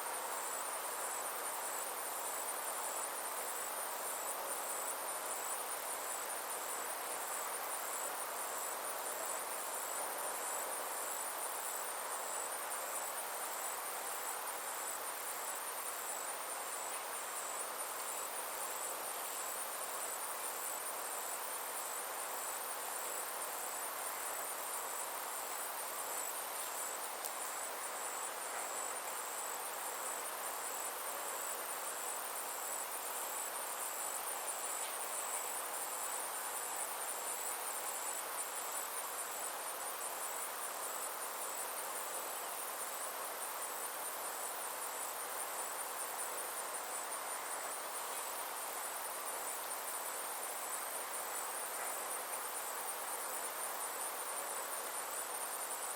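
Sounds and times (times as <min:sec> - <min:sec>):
insects trilling: 0:00.0 - 0:55.9
soft steady hiss: 0:00.0 - 0:55.9.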